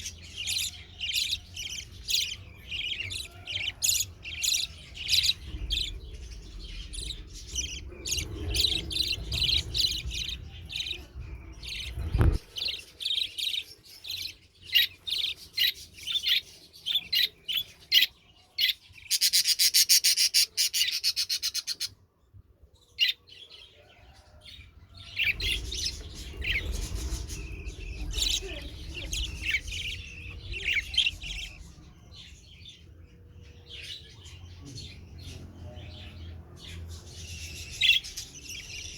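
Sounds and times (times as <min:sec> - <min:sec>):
budgerigars chirping and squawking: 0:00.0 - 0:22.1, 0:22.8 - 0:38.9.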